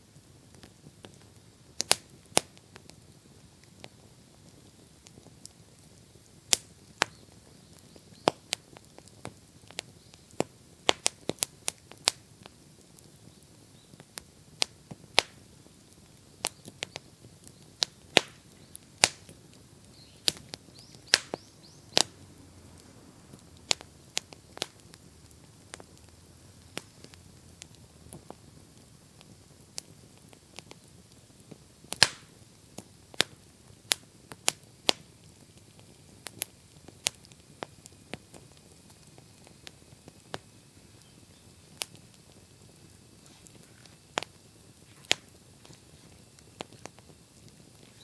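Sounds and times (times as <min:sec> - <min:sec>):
burning wood popping: 0:00.0 - 0:48.0
faint hiss of flame: 0:00.0 - 0:48.0
wood bonfire crackling: 0:00.0 - 0:48.0.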